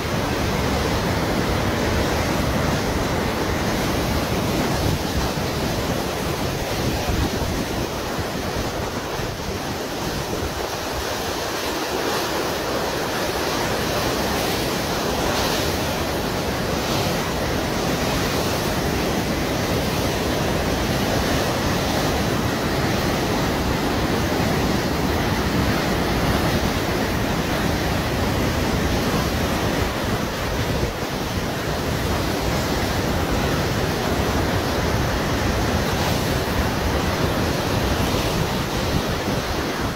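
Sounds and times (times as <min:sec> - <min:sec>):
river rushing: 0:00.0 - 0:39.9
wind on microphone: 0:00.0 - 0:39.9.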